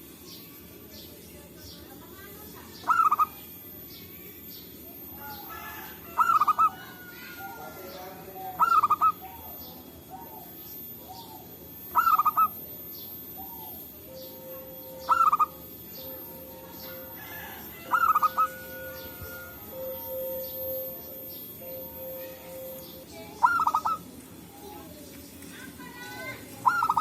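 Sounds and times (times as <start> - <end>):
other birds calling: 0.0 - 27.0
dove cooing: 2.7 - 3.8, 4.8 - 27.0.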